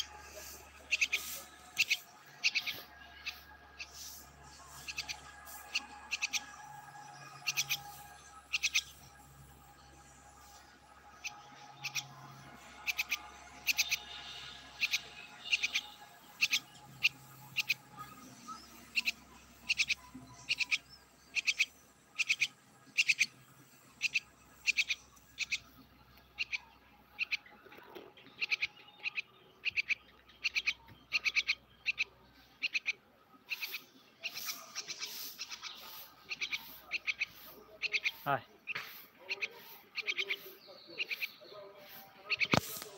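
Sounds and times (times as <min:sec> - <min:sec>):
fledgling bird chirping: 0:00.0 - 0:42.9.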